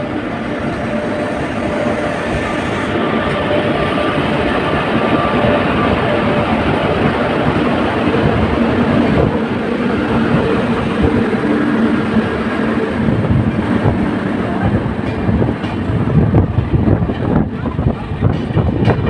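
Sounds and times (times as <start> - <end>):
passenger train rumbling on rails: 0.0 - 19.0.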